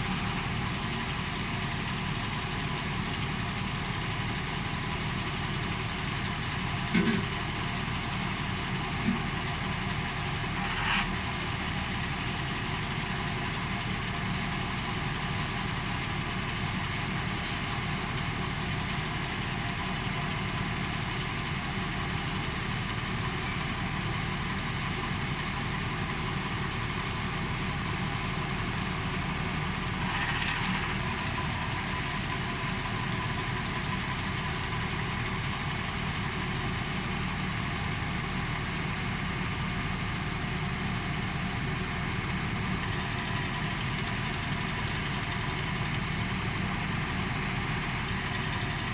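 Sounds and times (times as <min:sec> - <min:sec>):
backhoe engine running: 0:00.0 - 0:48.9.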